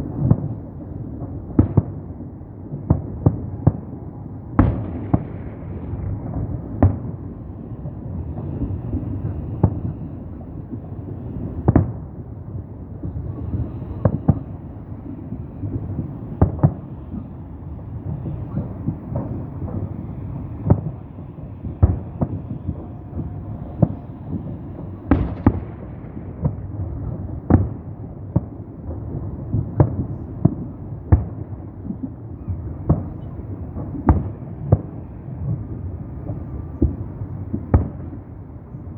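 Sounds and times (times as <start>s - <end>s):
fireworks booming: 0.0s - 38.9s.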